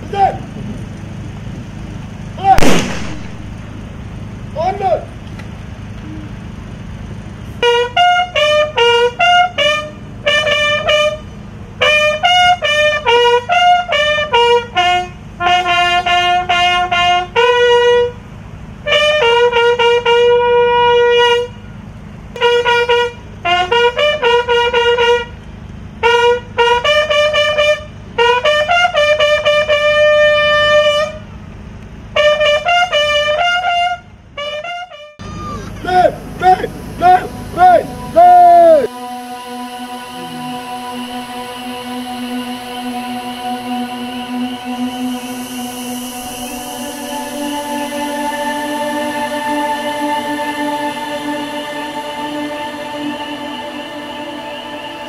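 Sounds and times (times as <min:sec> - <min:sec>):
steady low hum: 0:00.0 - 0:55.0
bugle call: 0:02.4 - 0:03.8, 0:07.5 - 0:25.4, 0:26.0 - 0:31.4, 0:32.1 - 0:53.8.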